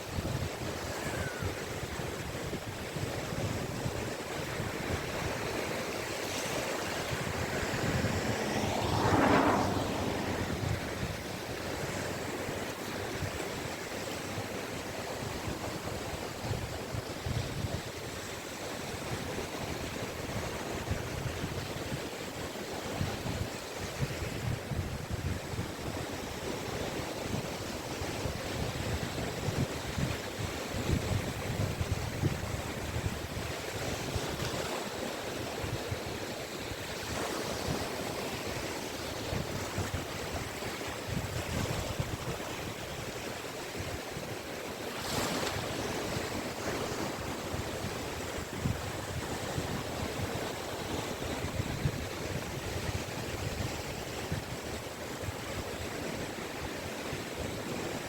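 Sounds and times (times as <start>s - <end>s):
small waves washing on beach: 0.0s - 58.0s
wind buffeting microphone: 0.0s - 58.0s.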